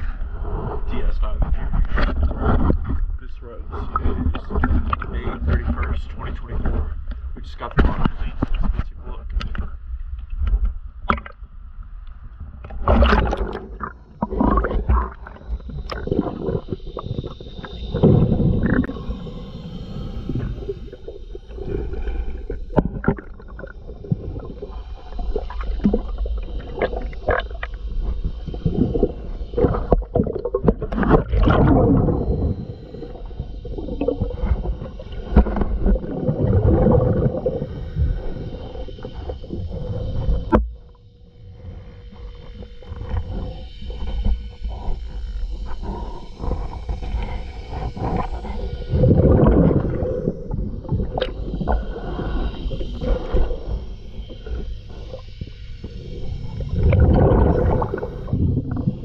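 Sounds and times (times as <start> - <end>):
underwater regulator bubbling: 0.0 - 11.4, 12.4 - 59.0.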